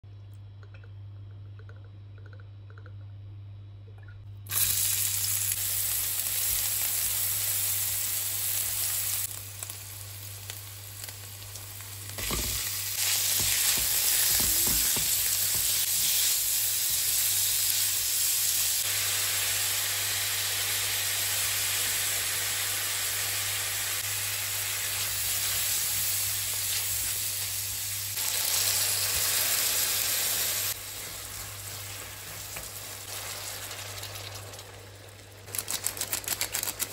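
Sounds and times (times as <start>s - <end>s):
food sizzling in a frying pan: 4.5s - 35.7s.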